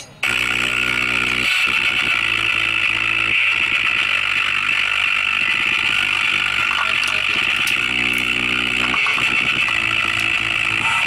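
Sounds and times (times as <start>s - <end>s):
buzzy bass-heavy music from woofer: 0.2s - 11.0s.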